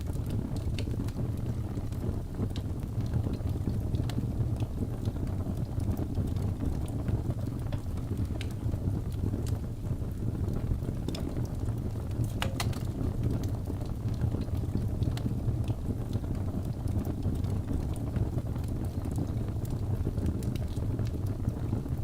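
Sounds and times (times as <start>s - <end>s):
fire crackles and pops: 0.0s - 22.0s
fire rumbling: 0.0s - 22.0s.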